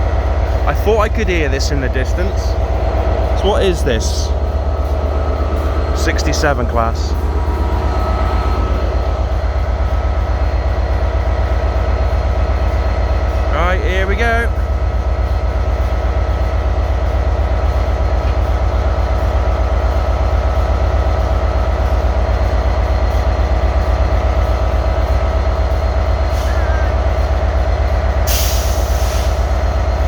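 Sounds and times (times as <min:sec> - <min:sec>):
diesel locomotive engine idling: 0:00.0 - 0:30.0.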